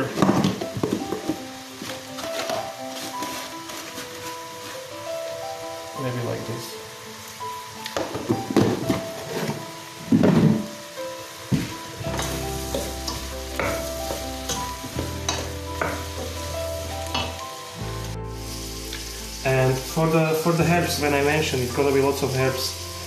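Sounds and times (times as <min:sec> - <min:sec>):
background music: 0:00.0 - 0:23.0
mushrooms sizzling in a pot: 0:00.0 - 0:23.0.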